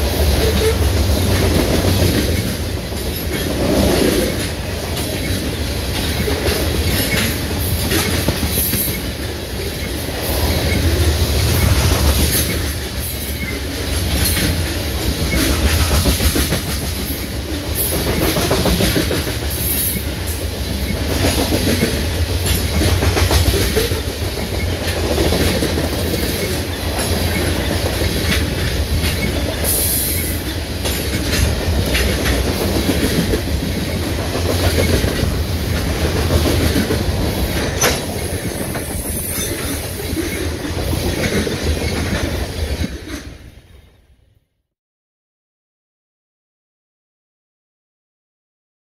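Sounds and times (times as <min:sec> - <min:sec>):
freight train rolling past: 0:00.0 - 0:44.3.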